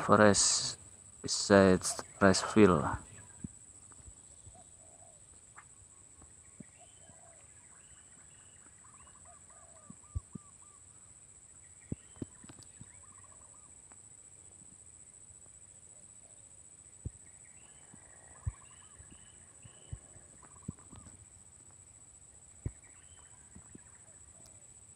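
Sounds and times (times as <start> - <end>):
faint birdsong: 0.0 - 24.9.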